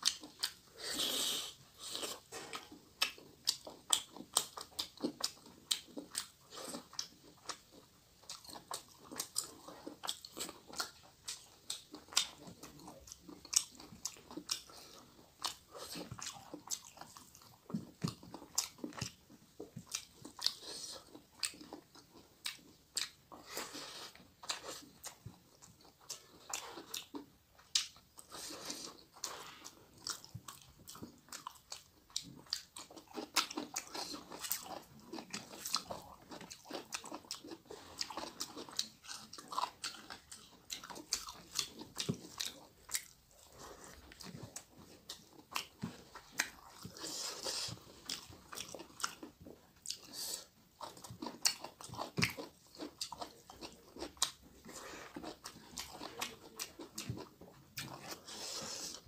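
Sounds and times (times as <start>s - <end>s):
chewing and lip-smacking: 0.0s - 59.0s.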